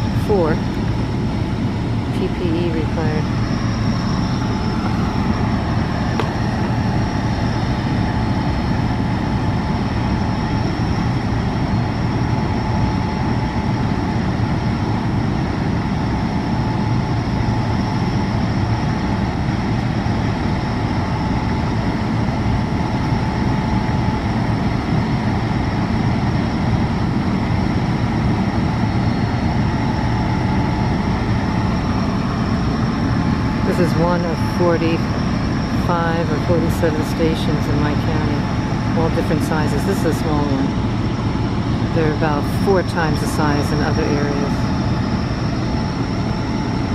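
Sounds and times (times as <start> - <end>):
compressor station rumble: 0.0 - 46.9.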